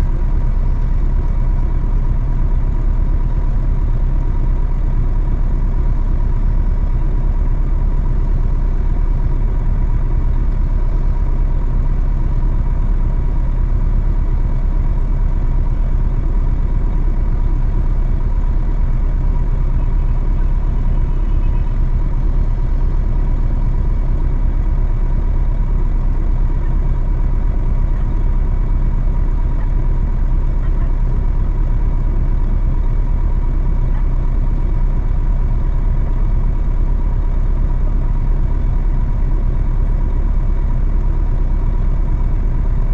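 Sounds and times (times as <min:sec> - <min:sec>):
truck engine droning: 0:00.0 - 0:42.9.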